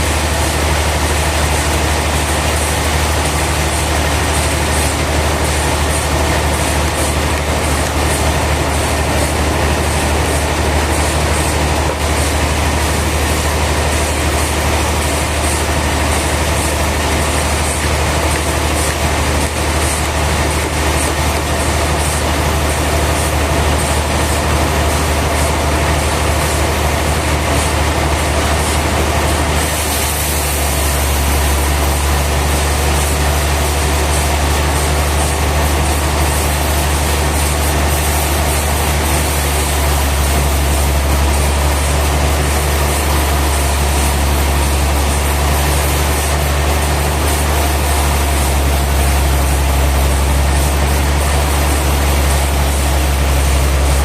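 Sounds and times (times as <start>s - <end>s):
low machinery hum: 0.0s - 54.0s.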